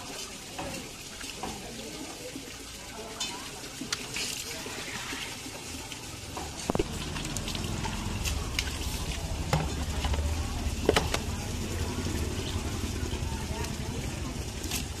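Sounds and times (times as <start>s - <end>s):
water splashing in a jug: 0.0s - 15.0s.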